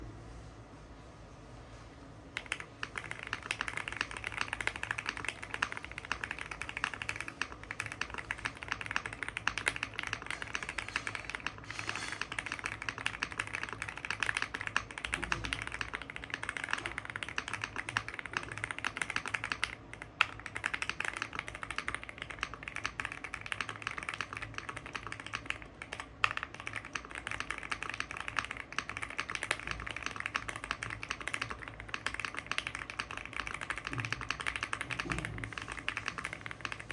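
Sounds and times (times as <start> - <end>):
typing on mechanical keyboard: 2.4 - 36.9.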